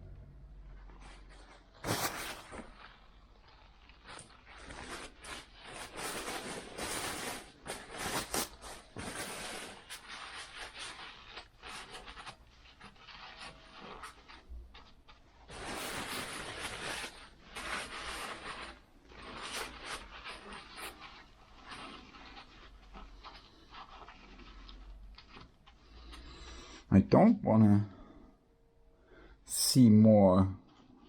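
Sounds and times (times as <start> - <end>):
hands rustling and scraping: 0.6 - 26.9.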